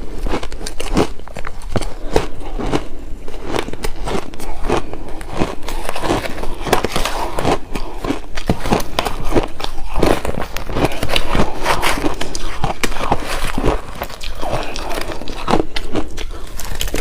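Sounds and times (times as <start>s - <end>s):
shaved ice being crunched: 0.2s - 17.0s.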